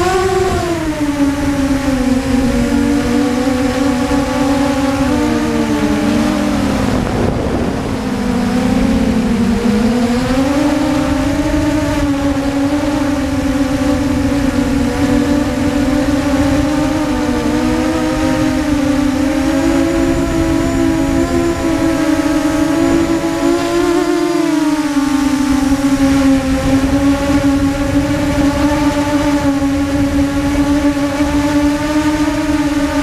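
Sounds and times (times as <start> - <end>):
drone motors whining: 0.0 - 33.0
low rushing noise: 0.0 - 33.0.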